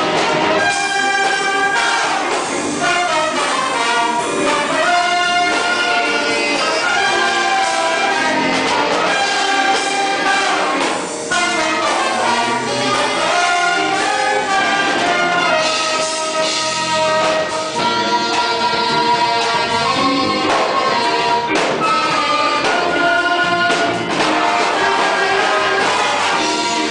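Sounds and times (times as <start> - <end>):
orchestra playing: 0.0 - 26.9.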